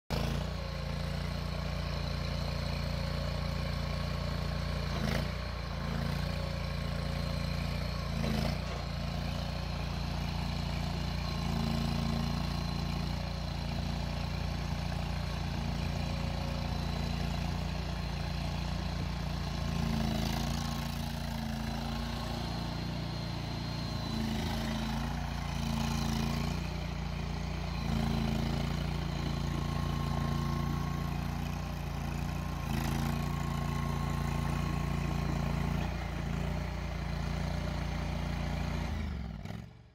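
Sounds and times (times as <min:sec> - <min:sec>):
skid steer engine running: 0:00.1 - 0:39.9.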